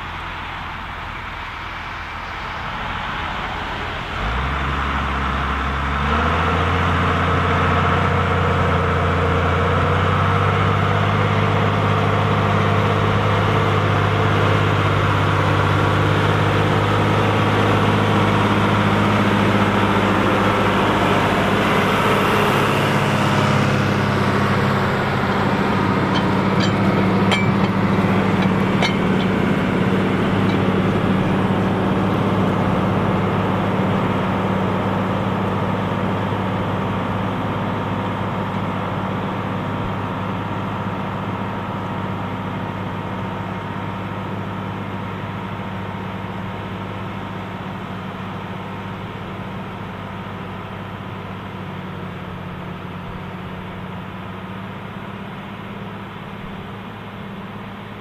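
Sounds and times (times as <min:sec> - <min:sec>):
tractor diesel engine working hard: 0:00.0 - 0:58.0.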